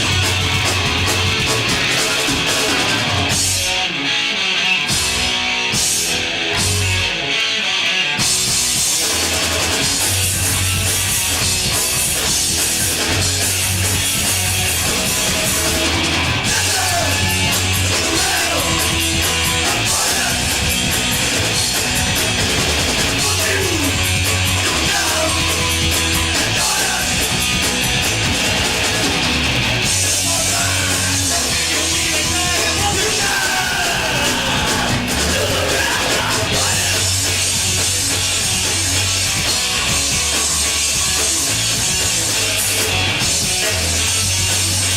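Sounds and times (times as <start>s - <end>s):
punk rock band playing live: 0.0s - 44.9s.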